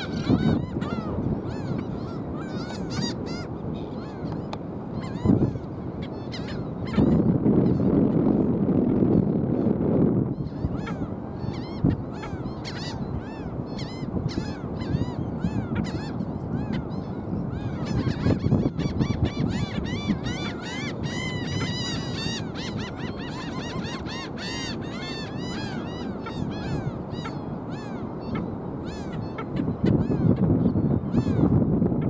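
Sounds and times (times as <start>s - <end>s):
flock of birds calling: 0.0s - 7.9s, 10.4s - 31.5s.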